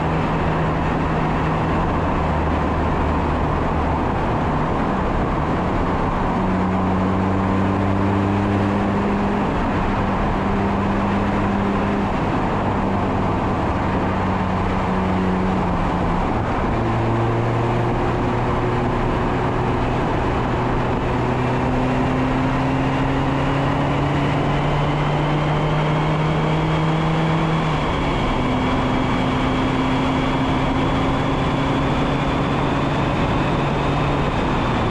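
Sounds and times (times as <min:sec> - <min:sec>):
car engine under way: 0:00.0 - 0:34.9
wind noise on microphone: 0:00.0 - 0:34.9.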